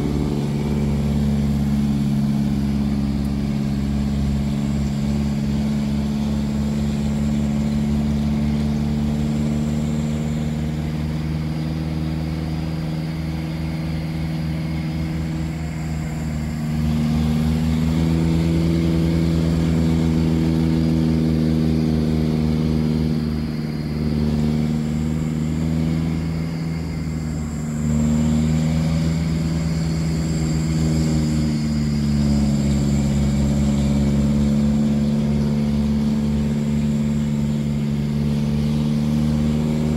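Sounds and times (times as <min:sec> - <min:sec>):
truck engine under load: 0:00.0 - 0:39.9.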